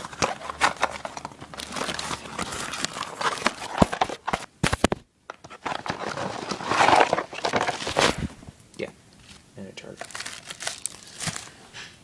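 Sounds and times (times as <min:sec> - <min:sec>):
plastic packaging rustling: 0:00.0 - 0:08.5, 0:09.2 - 0:12.0.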